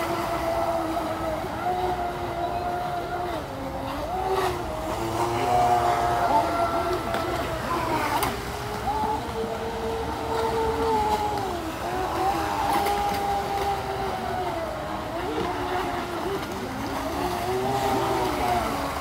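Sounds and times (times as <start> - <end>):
model boat motor whine: 0.0 - 19.0.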